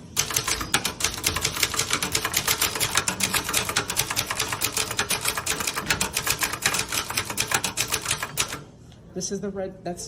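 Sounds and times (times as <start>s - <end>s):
typewriter key strikes: 0.0s - 8.6s.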